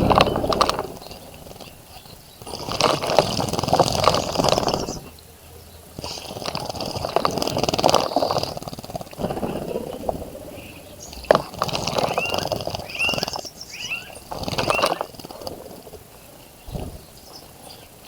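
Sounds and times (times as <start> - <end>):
birds splashing in water: 0.0 - 5.2, 5.8 - 15.9.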